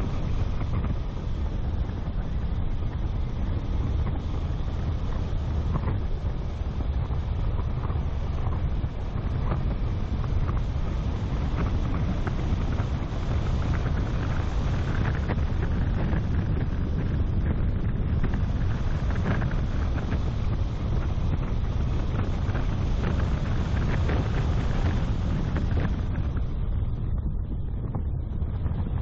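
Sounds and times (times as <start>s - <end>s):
car driving on road: 0.0s - 29.0s
wind buffeting microphone: 0.0s - 29.0s.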